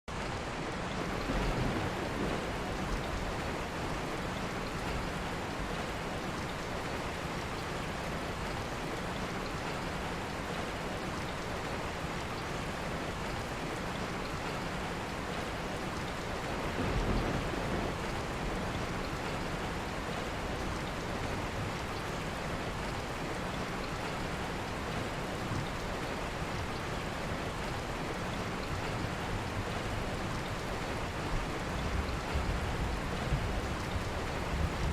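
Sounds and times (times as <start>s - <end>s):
steady rain hiss: 0.1s - 34.9s.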